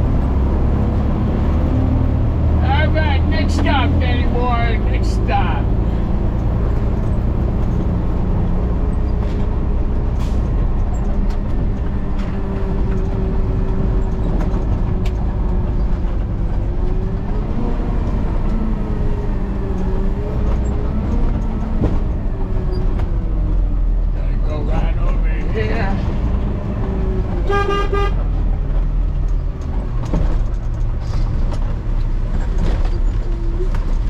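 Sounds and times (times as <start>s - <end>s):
truck engine low rumble: 0.0s - 34.0s.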